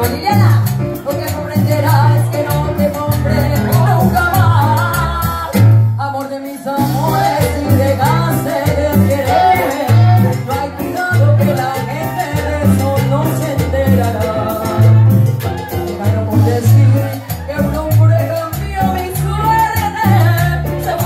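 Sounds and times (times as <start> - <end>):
conga drums: 0.0 - 21.0
keyboard bass line: 0.0 - 21.0
woman singing: 0.0 - 21.0.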